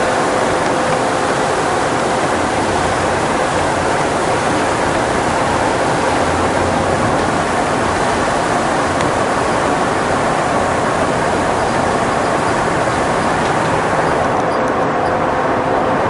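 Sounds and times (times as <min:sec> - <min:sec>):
low road rumble: 0:00.0 - 0:16.0
tyres hissing on wet road: 0:00.0 - 0:16.0.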